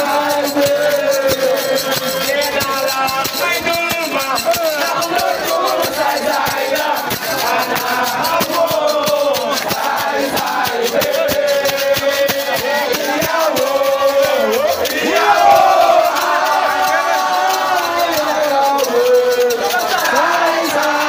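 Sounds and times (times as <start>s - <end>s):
crowd singing and chanting: 0.0s - 21.0s
fast rattling percussion: 0.0s - 21.0s.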